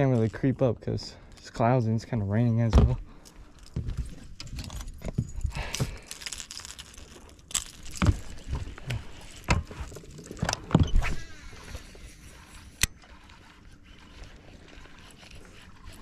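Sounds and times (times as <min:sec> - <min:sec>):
fishing gear rattling and clicking: 0:00.0 - 0:16.0.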